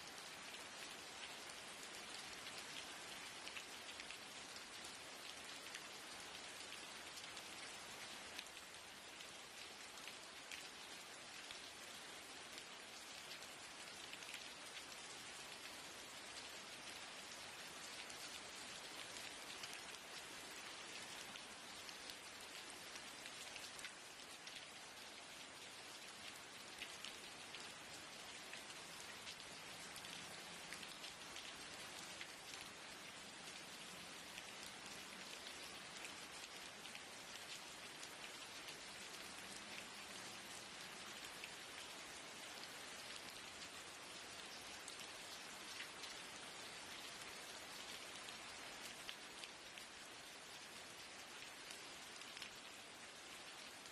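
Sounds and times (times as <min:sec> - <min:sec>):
rain falling on a window: 0:00.0 - 0:53.9.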